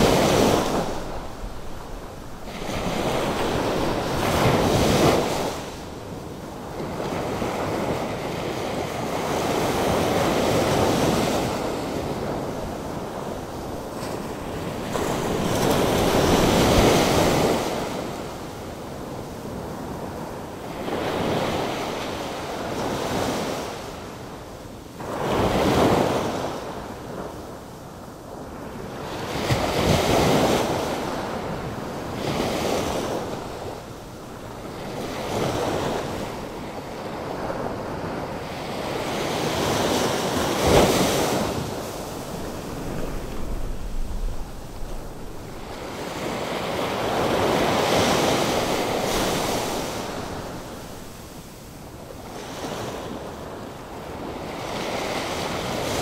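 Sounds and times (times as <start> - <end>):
ocean waves breaking: 0.0 - 23.8, 28.5 - 56.0
wind rumbling on microphone: 0.0 - 24.2, 25.0 - 56.0.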